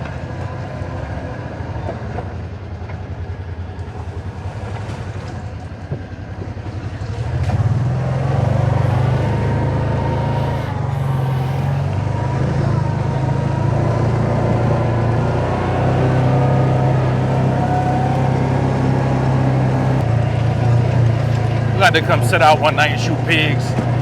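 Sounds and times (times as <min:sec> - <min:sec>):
utility vehicle engine running: 0:00.0 - 0:24.0.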